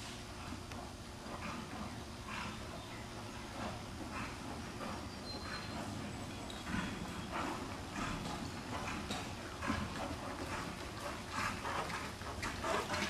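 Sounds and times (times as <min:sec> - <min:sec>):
horse hoofbeats on soft footing: 0:00.4 - 0:13.0.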